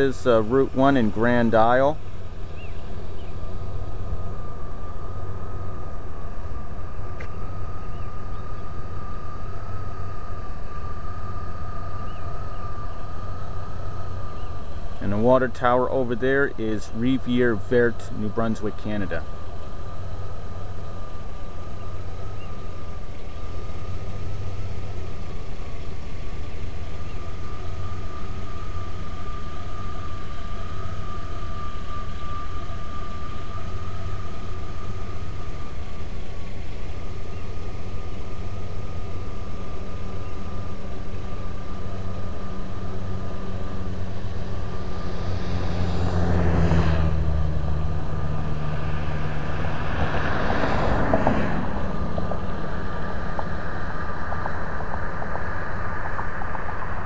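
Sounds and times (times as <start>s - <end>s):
faint steady whine: 0.0s - 57.0s
steady low hum: 0.0s - 57.0s
vehicles passing: 0.0s - 57.0s.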